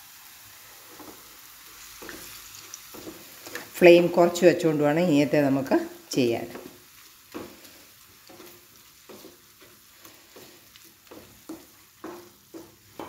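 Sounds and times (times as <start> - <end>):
faint sizzle of frying: 0.0 - 13.0
wooden spoon scraping a pan: 0.7 - 13.0.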